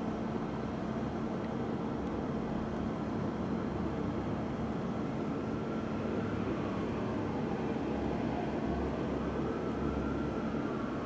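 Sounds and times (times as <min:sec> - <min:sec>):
faint constant drone: 0:00.0 - 0:11.0
urban background rumble: 0:00.0 - 0:11.0.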